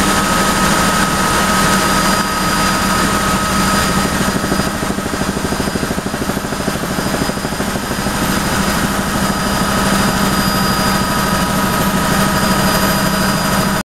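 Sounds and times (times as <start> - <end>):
helicopter rotor blades beating: 0.0 - 13.8
helicopter turbine whine: 0.0 - 13.8.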